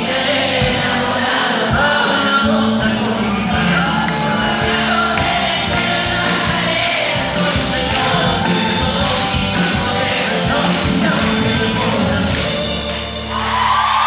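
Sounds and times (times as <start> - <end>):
live band with man singing: 0.0 - 13.5.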